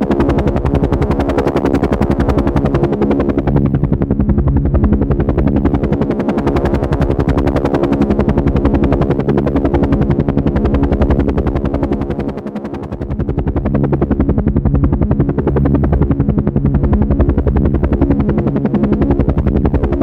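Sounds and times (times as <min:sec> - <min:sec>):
helicopter engine hum: 0:00.0 - 0:20.0
helicopter rotor chop: 0:00.0 - 0:20.0.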